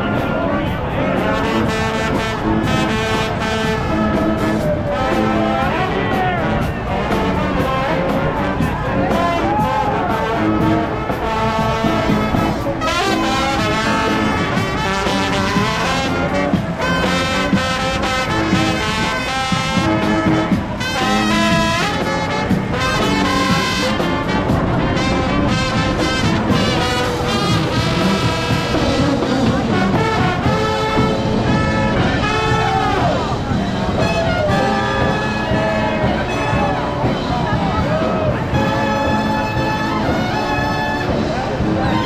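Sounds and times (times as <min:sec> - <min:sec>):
brass band playing: 0:00.0 - 0:42.0.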